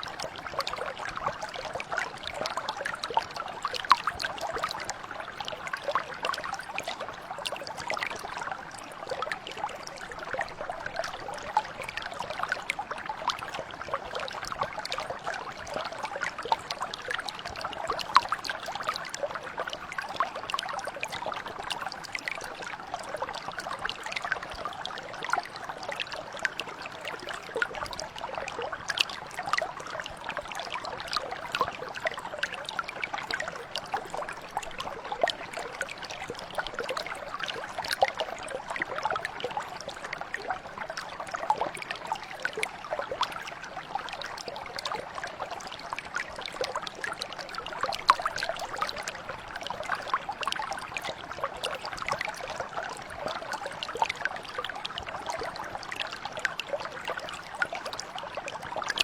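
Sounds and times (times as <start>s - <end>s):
brook flowing with small splashes: 0.0s - 59.0s.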